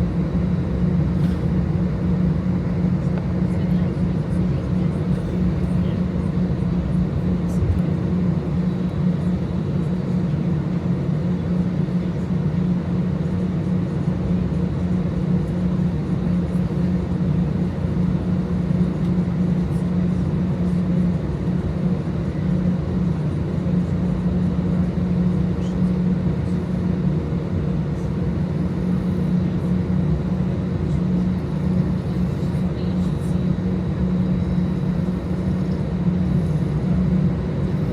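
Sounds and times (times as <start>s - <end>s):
airplane cabin drone: 0.0s - 37.9s.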